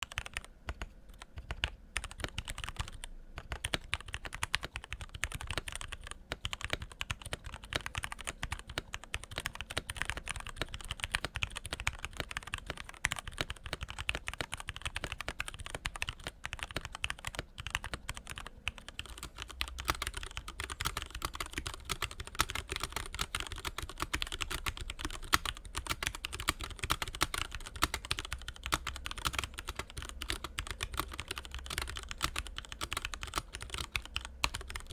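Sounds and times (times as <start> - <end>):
mechanical keyboard typing: 0.0 - 34.9.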